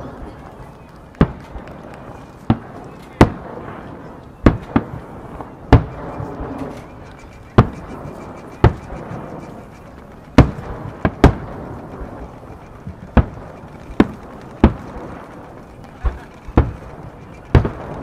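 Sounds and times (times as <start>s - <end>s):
firework booms echoing: 1.1s - 18.0s.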